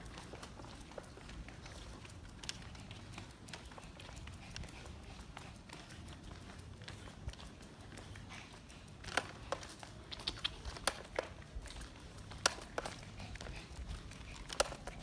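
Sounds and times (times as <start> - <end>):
footsteps on concrete pavement: 0.0 - 15.0.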